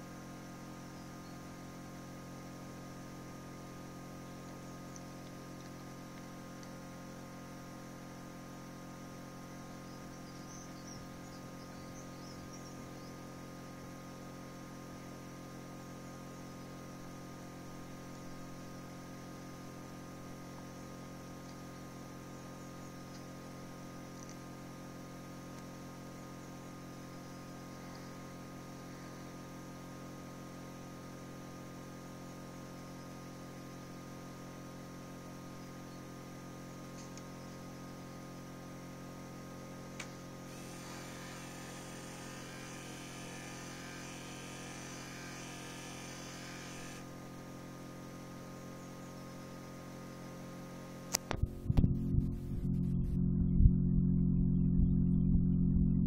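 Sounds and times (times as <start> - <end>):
incubator electrical hum: 0.0 - 56.0.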